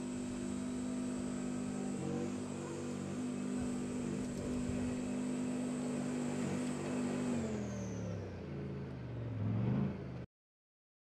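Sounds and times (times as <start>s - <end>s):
tank diesel engine running: 0.0s - 10.2s.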